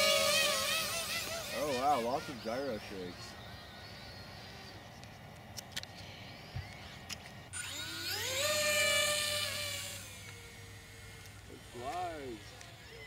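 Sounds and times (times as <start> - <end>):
electric motors and propellers whining: 0.0 - 13.0.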